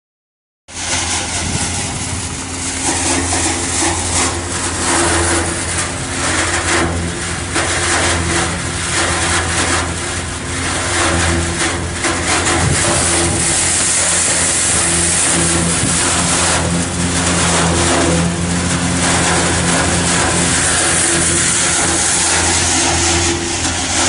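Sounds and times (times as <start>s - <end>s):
rush of air and straw: 0.7s - 24.0s
tractor engine hum: 0.7s - 24.0s.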